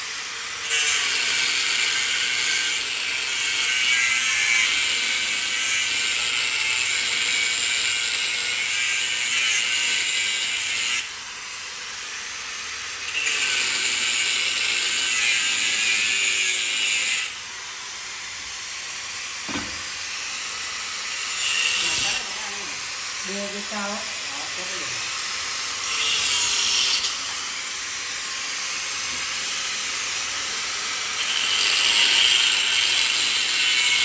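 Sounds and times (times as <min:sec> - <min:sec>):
angle grinder cutting steel: 0:00.0 - 0:34.0.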